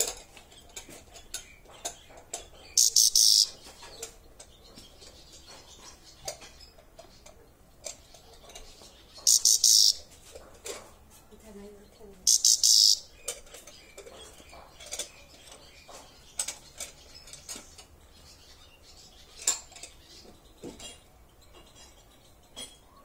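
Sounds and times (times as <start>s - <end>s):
bird chirp: 0.0s - 23.0s.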